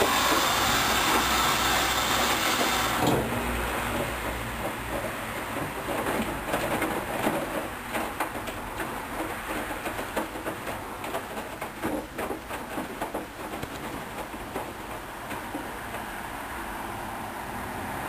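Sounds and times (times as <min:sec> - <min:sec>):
washing machine drum tumbling: 0:00.0 - 0:16.0.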